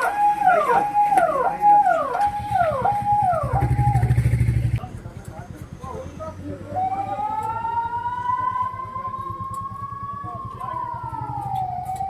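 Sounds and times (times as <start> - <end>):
emergency siren wailing: 0.0 - 4.8, 6.6 - 12.0
engine rumble: 0.0 - 12.0.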